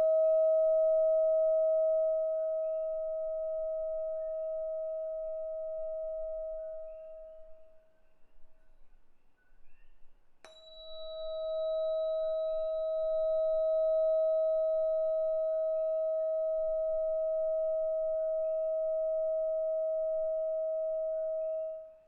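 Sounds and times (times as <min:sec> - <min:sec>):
tuning fork ringing: 0:00.0 - 0:08.8, 0:10.4 - 0:22.0.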